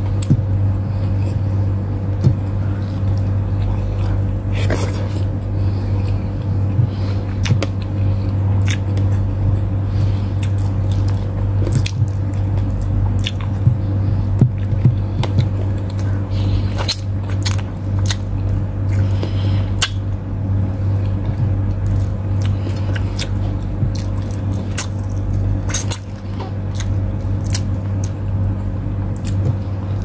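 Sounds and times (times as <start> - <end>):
steady low hum: 0.0 - 30.0
chewing: 2.2 - 20.0, 20.9 - 29.8.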